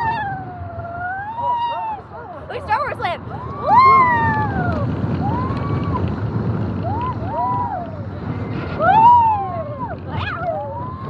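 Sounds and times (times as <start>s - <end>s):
roller coaster rumbling on track: 0.0s - 11.0s
wind on microphone: 0.0s - 11.0s.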